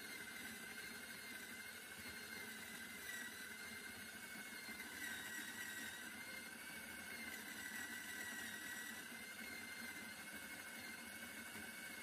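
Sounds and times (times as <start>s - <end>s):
coffee grinder whining: 0.0s - 12.0s.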